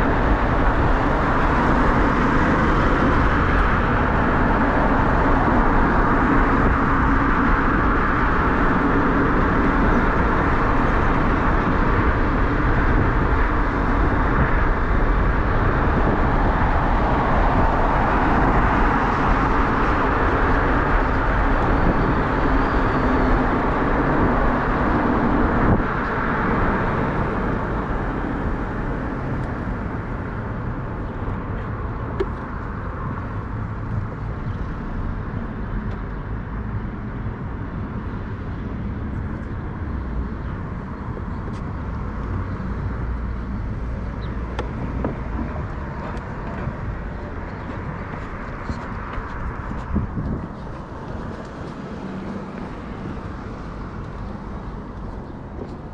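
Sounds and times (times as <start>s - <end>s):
tyre and traffic noise: 0.0s - 55.9s
wind rushing on microphone: 0.0s - 55.9s.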